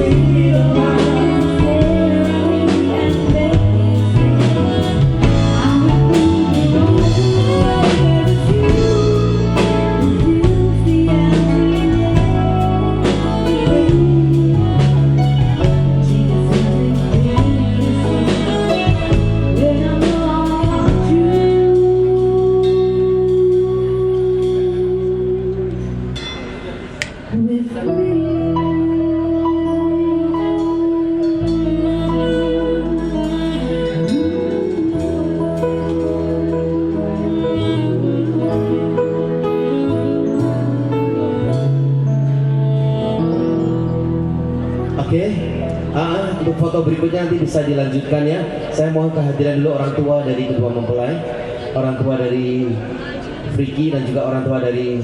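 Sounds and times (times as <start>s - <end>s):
person singing: 0.0s - 26.2s, 27.3s - 46.7s
live band playing a song: 0.0s - 54.7s.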